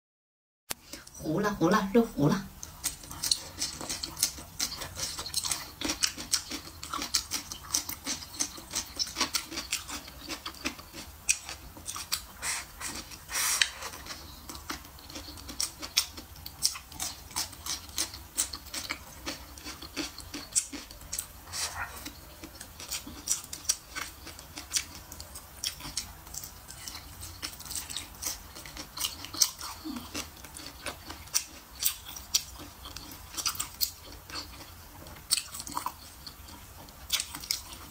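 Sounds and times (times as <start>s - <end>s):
person chewing food: 2.5s - 37.9s.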